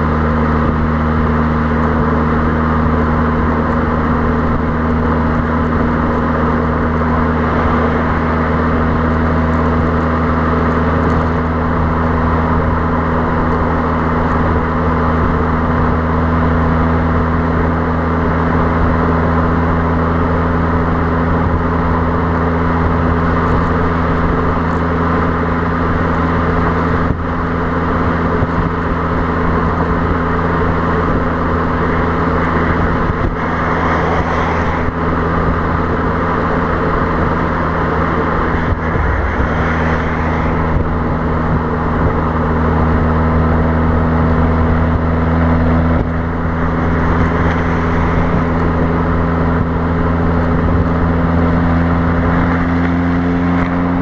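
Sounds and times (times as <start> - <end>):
car exhaust at cruise: 0.0 - 54.0
wind on microphone: 0.0 - 54.0.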